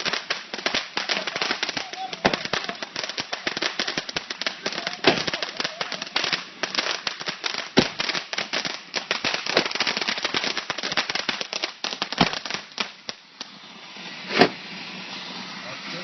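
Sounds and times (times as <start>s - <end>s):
loud firecracker bangs: 0.0s - 13.0s
firecrackers popping: 0.0s - 16.0s.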